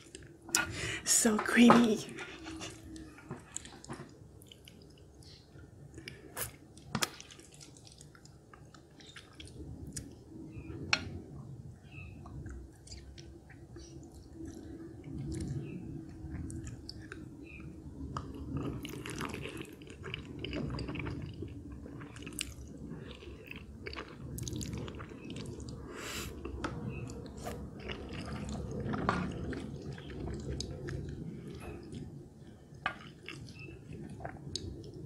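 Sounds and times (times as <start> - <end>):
chewing with wet smacks: 2.1 - 35.0.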